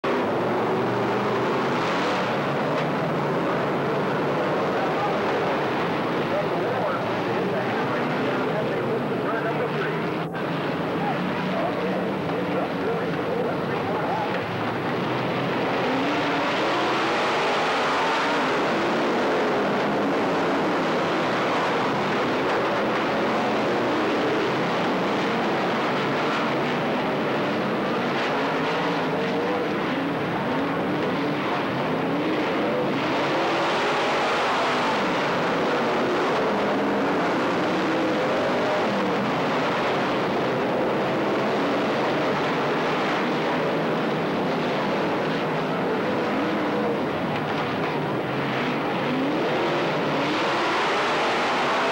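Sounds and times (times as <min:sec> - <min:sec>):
race car engines at speed: 0:00.0 - 0:51.9.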